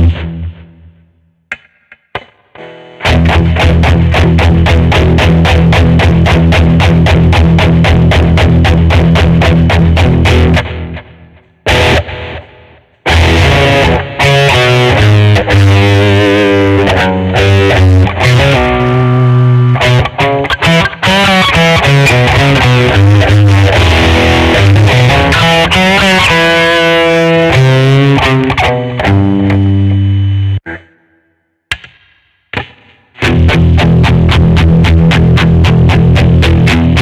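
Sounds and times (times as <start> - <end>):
distorted electric guitar riffing: 0.0 - 0.9, 2.6 - 31.3, 32.7 - 37.0.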